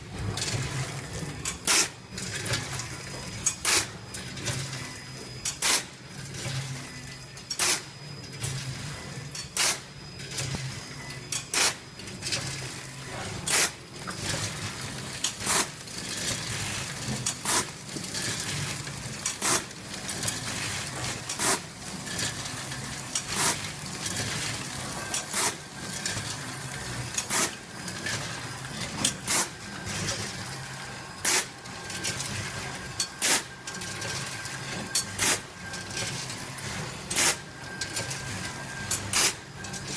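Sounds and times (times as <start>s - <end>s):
packing machine humming: 0.0s - 39.9s.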